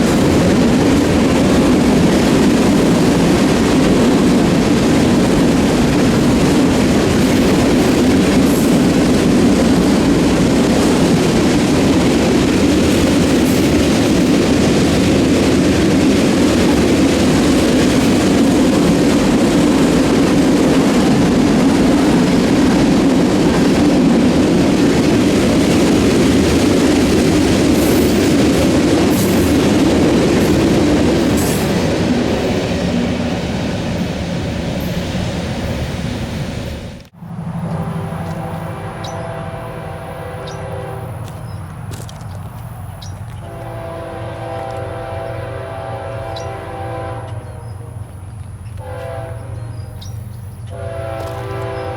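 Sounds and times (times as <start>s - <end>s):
freight train wheels rumbling on track: 0.0s - 51.9s.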